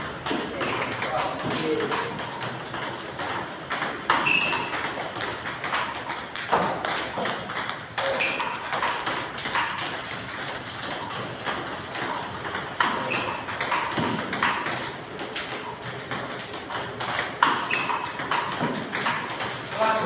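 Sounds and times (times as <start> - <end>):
table tennis balls clicking: 0.0 - 20.0.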